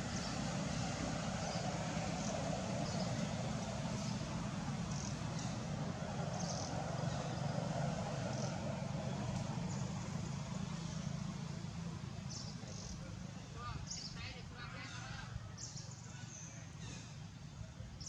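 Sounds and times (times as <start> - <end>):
low rumble with hiss: 0.0 - 18.0.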